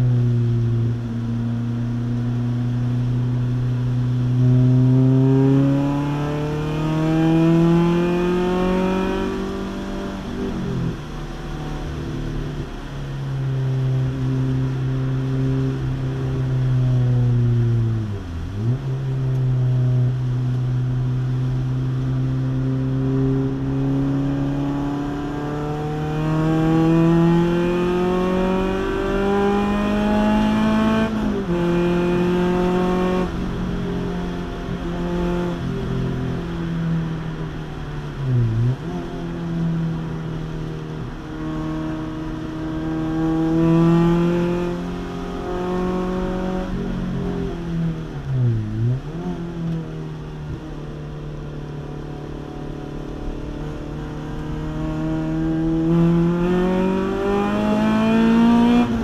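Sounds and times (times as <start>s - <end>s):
car engine revving from cabin: 3.7s - 12.8s, 13.6s - 36.5s, 41.0s - 51.2s, 52.0s - 59.0s.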